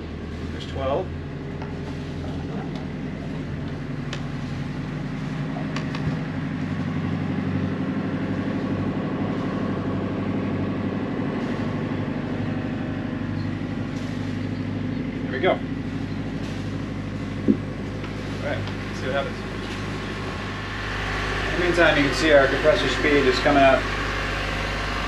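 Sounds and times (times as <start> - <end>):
marine diesel engine running: 0.0 - 25.0.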